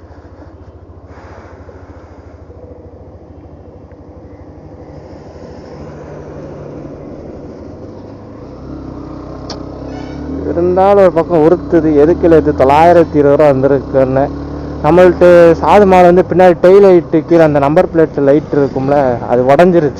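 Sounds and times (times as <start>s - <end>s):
motorcycle engine running: 0.0s - 19.9s
road and wind noise: 0.0s - 19.9s.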